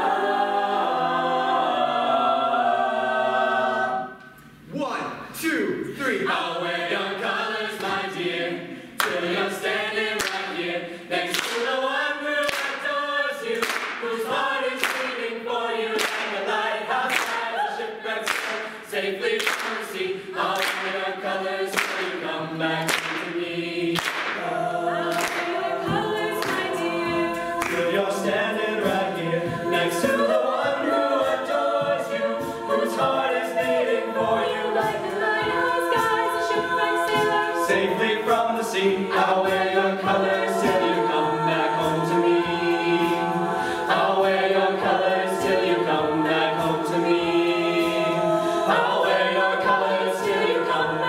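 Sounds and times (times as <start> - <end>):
a cappella group singing: 0.0 - 4.6, 5.8 - 51.0.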